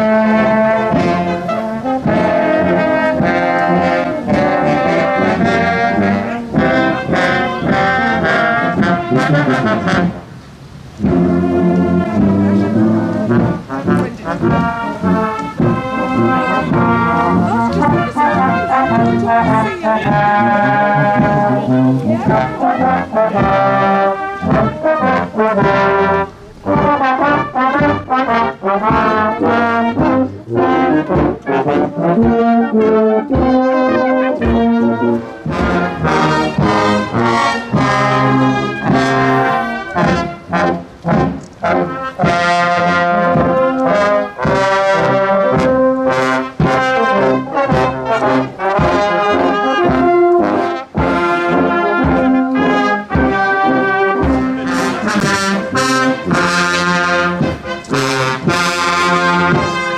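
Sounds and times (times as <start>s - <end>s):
marching brass band playing: 0.0s - 59.9s.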